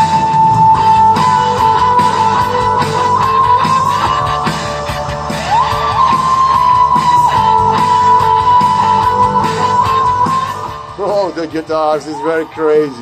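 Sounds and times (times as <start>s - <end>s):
rock music with loud guitars: 0.0s - 12.2s.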